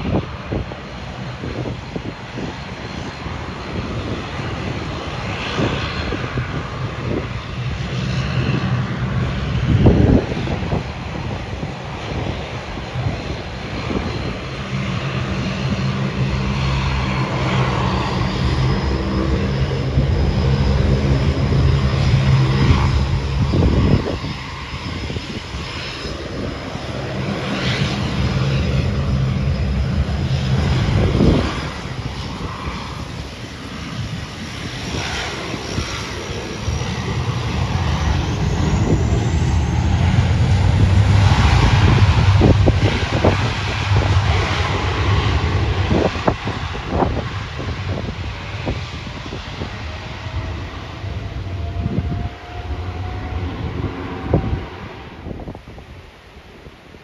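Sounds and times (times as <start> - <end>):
high engine whine: 0.0 - 57.0
low propeller drone: 0.0 - 57.0.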